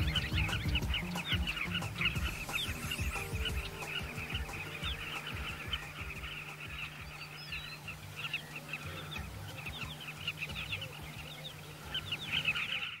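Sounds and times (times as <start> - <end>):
flock of birds calling: 0.0 - 13.0.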